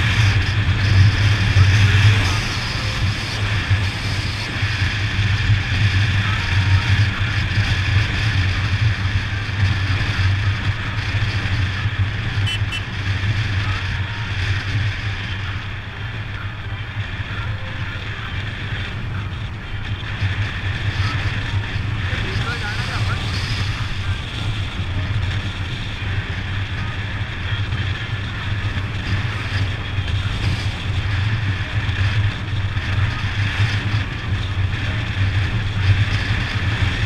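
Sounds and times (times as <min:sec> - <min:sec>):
motorcycle engine droning: 0:00.0 - 0:37.0
wind rushing over microphone: 0:00.0 - 0:37.0.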